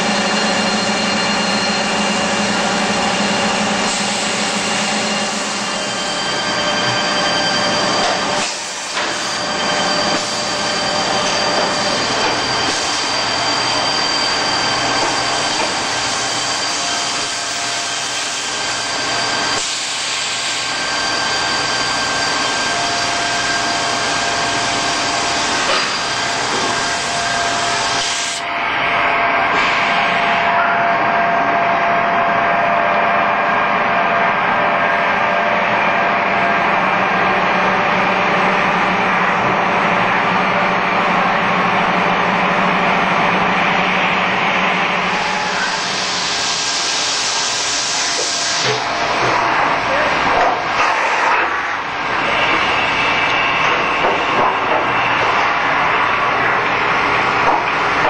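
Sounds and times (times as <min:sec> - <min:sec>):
machine spindle whining: 0:00.0 - 0:58.0.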